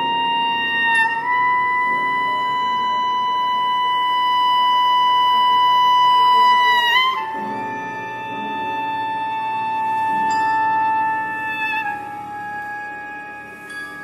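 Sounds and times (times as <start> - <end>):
clarinet holding high note: 0.0 - 14.0
soft sustained strings: 0.0 - 14.0.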